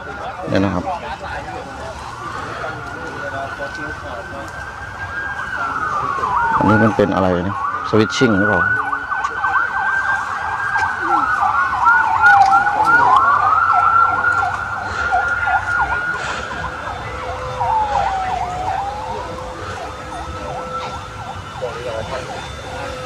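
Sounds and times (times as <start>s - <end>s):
electronic siren: 0.0s - 23.0s.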